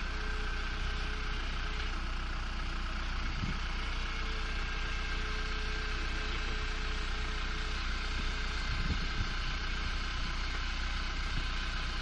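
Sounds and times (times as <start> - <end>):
motor running hum: 0.0 - 12.0.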